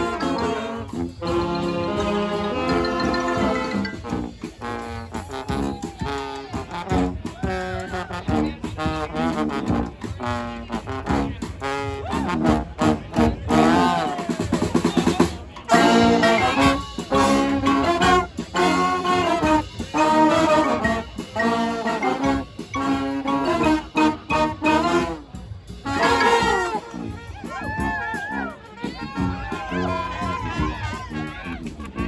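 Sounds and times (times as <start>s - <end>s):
brass band playing: 0.0s - 32.0s.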